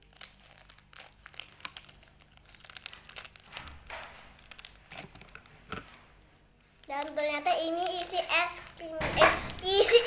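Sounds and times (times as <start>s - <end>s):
plastic wrapper crinkling: 0.0s - 10.0s.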